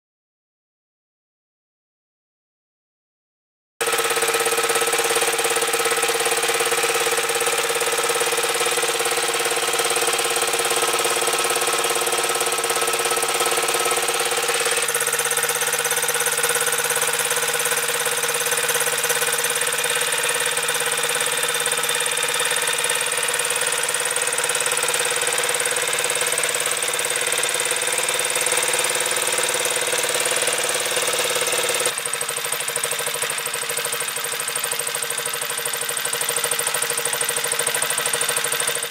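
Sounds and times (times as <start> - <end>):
motorcycle engine running: 3.8 - 38.9.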